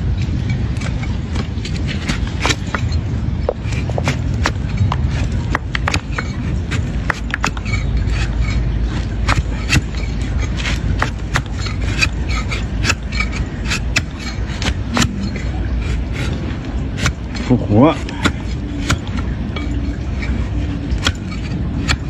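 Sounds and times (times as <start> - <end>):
steady low rumble: 0.0 - 22.0
hoof blade cracking and scraping: 0.2 - 22.0.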